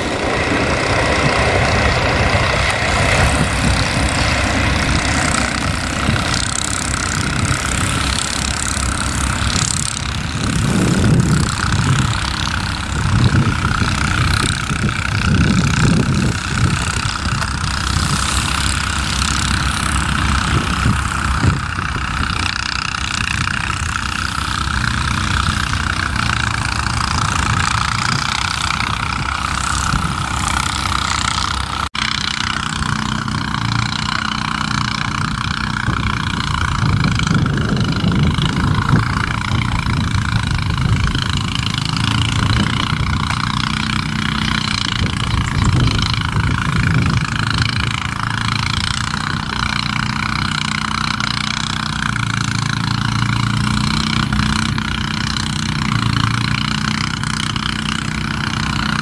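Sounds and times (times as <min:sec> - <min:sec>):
distant train rumble with hiss: 0:00.0 - 0:59.0
faint engine drone: 0:00.0 - 0:59.0.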